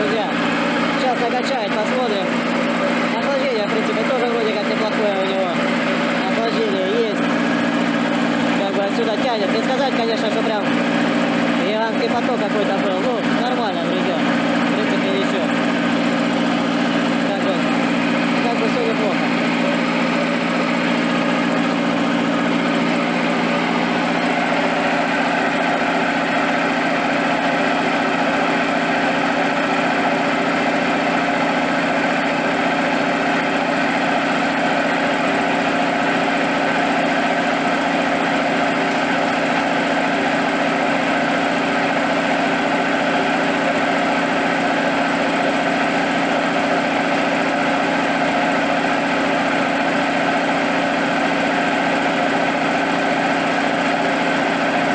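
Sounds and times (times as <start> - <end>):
air compressor running: 0.0 - 54.9.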